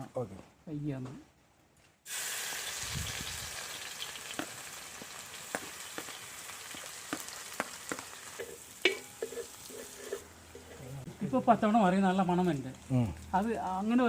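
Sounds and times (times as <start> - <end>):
aromatics sizzling in hot oil: 2.1 - 14.0.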